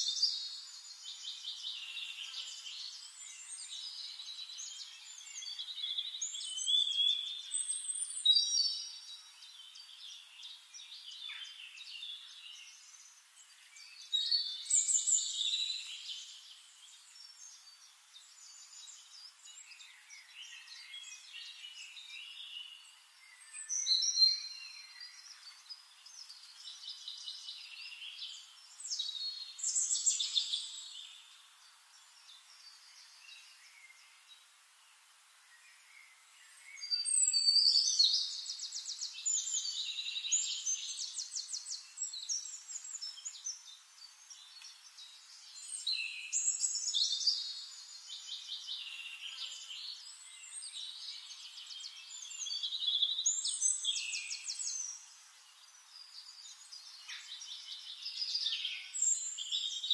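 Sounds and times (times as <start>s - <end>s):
birdsong chirps and trills: 0.0s - 59.9s.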